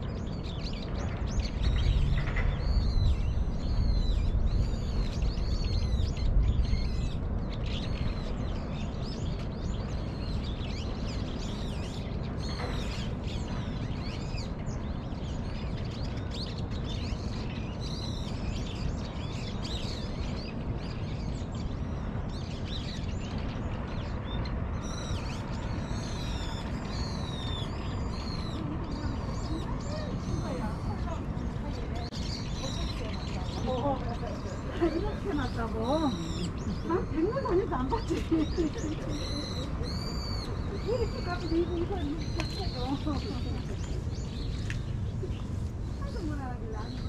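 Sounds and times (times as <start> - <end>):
low background rumble: 0.0 - 47.0
small birds chirping: 0.0 - 47.0.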